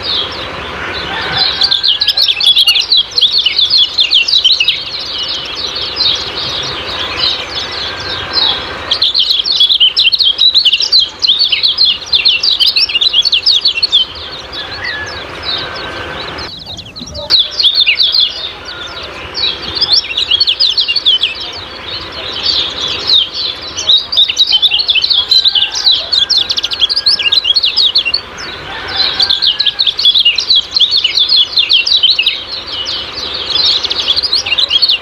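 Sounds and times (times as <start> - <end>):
bird rapid high chirps: 0.0 - 35.0.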